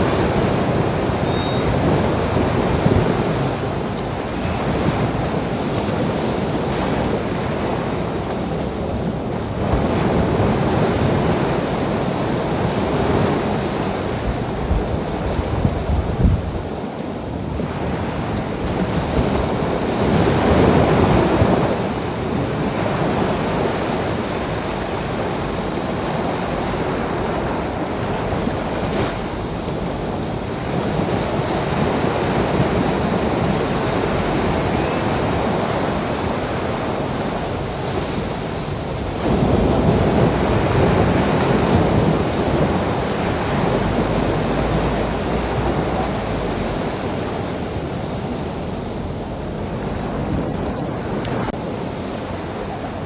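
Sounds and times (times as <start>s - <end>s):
waves washing onto shore: 0.0s - 53.0s.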